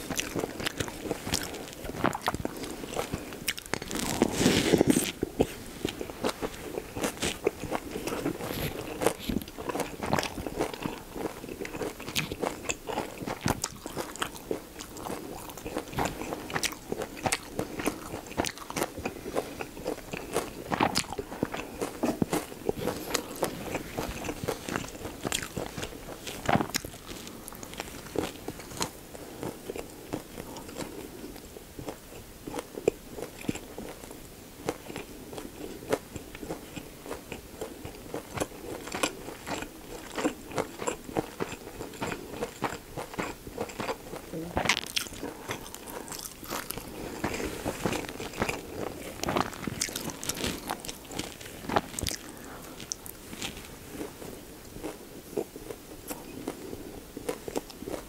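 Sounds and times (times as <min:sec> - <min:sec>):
wet crisp chewing: 0:00.0 - 0:58.0.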